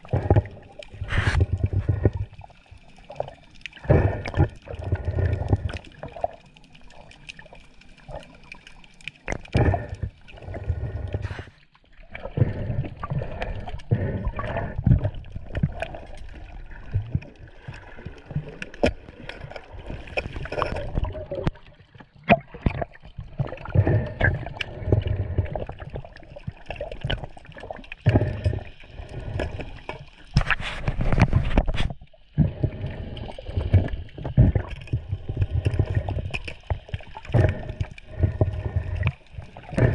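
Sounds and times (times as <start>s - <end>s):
seawater sloshing and gurgling: 0.0s - 39.9s.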